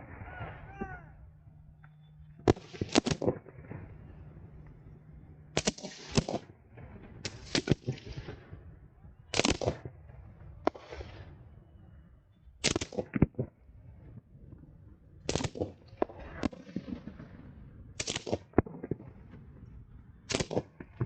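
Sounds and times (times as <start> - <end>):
fireworks bangs: 0.0 - 11.7, 15.3 - 21.0.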